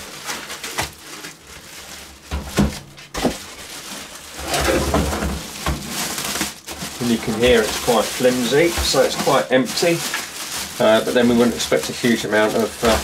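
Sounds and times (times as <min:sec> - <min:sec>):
foam packing rubbing: 0:00.0 - 0:13.0
plastic bag crinkling: 0:00.0 - 0:13.0.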